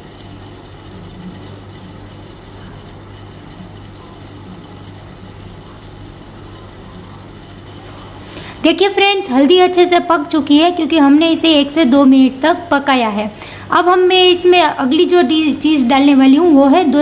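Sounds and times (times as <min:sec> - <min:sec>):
water bubbling in a pan: 0:00.0 - 0:17.0.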